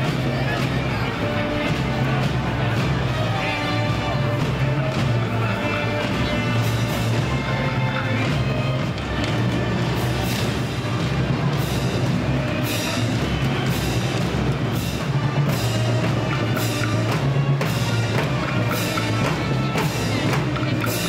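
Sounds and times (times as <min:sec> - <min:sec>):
heavy drum beat and crashes: 0:00.0 - 0:21.0
marching band music: 0:00.0 - 0:21.0.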